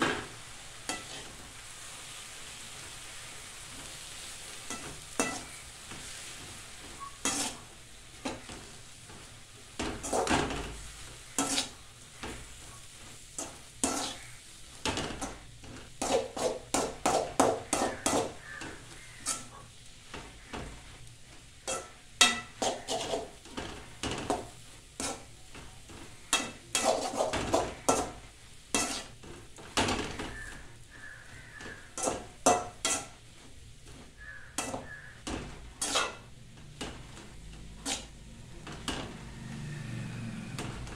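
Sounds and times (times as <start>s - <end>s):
faint sizzle: 0.0s - 40.9s
metal spatula scraping a pan: 0.0s - 40.9s.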